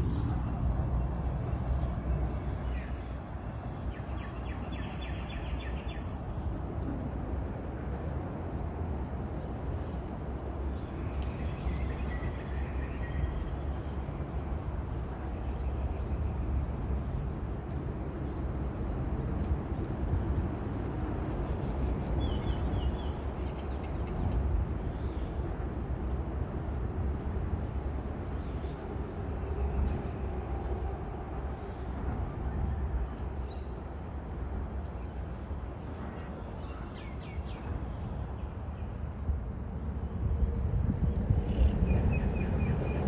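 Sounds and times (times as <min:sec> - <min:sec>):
motorway traffic rumble: 0:00.0 - 0:43.0.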